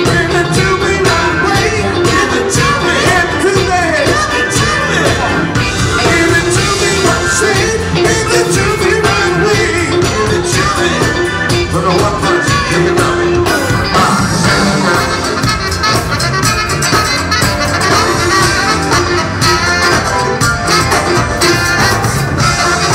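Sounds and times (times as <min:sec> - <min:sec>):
funk band playing: 0:00.0 - 0:22.9.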